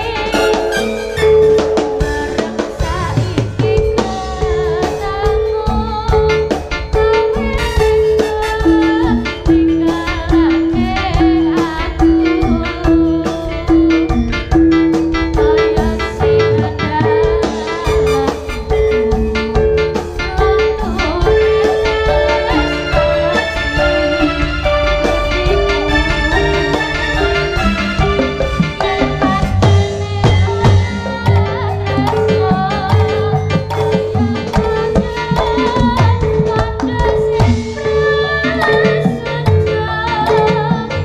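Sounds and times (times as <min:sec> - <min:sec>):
repeated melodic note: 0:00.0 - 0:40.1
steady drumming: 0:00.0 - 0:41.0.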